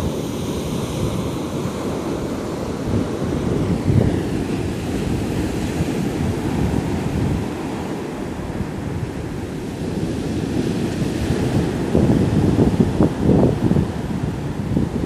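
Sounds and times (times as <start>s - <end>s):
surf washing up a sandy beach: 0.0s - 15.0s
wind buffeting microphone: 0.0s - 15.0s.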